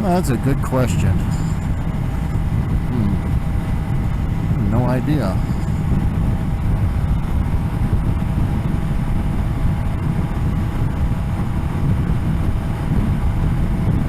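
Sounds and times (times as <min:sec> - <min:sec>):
motorcycle engine drone: 0:00.0 - 0:14.0
wind rush on microphone: 0:00.0 - 0:14.0.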